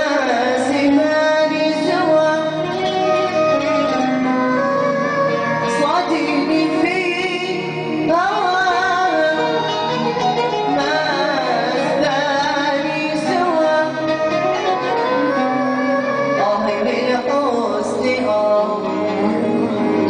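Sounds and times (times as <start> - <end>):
oud accompaniment: 0.0 - 20.0
person singing ornamented melody: 0.0 - 20.0.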